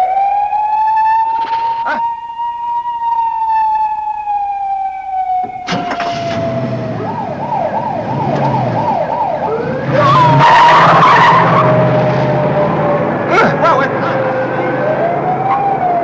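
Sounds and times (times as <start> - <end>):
police siren wail and yelp: 0.0 - 16.0.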